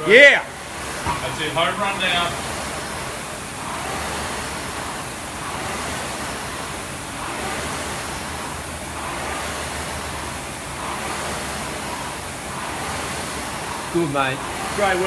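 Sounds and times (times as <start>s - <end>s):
rowing machine flywheel whooshing: 0.0s - 15.0s.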